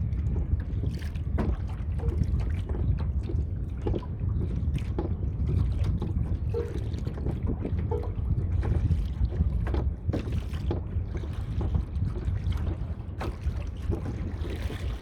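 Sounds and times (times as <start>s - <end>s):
water slapping kayak hull: 0.0s - 15.0s
wind rumbling on microphone: 0.0s - 15.0s.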